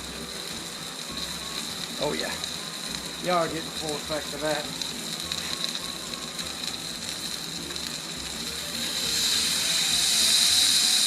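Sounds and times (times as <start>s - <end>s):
steak sizzling on griddle: 0.0s - 11.0s.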